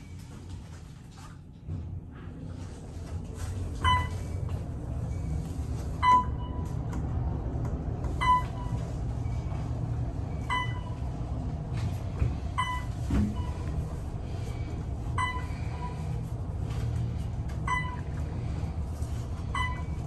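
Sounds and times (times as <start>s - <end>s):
elevator ride rumble: 0.0s - 20.0s.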